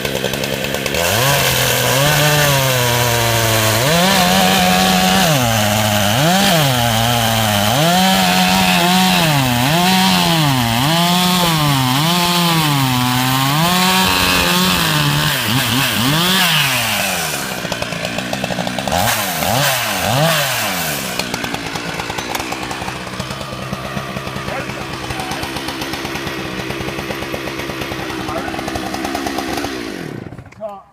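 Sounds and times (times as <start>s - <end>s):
chainsaw cutting log: 0.0s - 30.8s.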